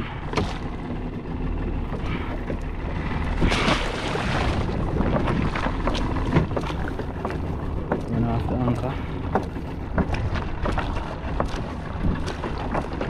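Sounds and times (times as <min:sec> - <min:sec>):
water sloshing beside boat: 0:00.0 - 0:13.0
wind buffeting microphone: 0:00.0 - 0:13.0.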